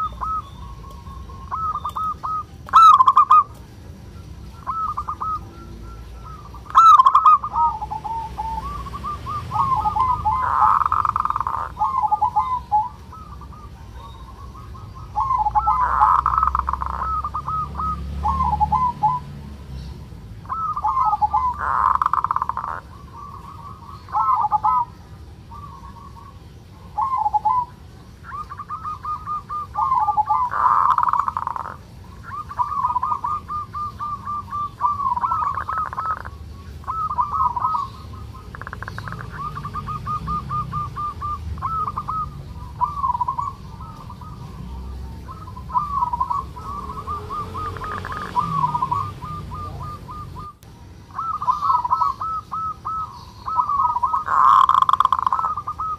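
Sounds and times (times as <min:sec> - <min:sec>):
dove purring trill call: 0:00.0 - 0:55.9.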